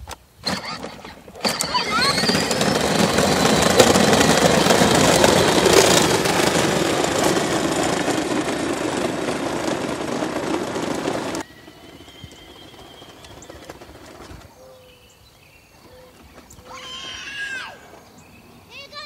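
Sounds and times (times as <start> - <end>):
plastic wheels rolling on asphalt: 0.0 - 19.0.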